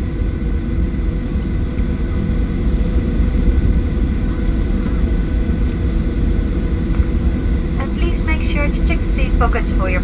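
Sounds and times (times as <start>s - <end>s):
jet engines idling rumble: 0.0s - 10.0s.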